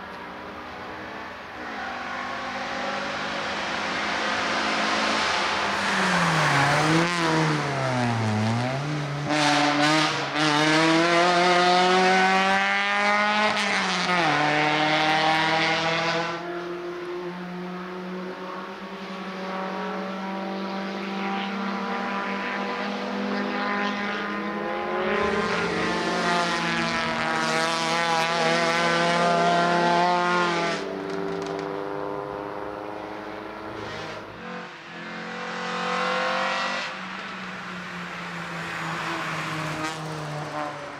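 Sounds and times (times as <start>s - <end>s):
race car engine accelerating: 1.6s - 37.3s.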